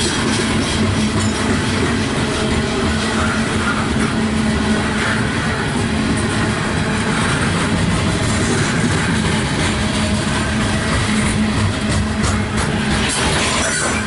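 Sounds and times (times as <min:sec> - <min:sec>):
freight train rolling past: 0:00.0 - 0:14.0.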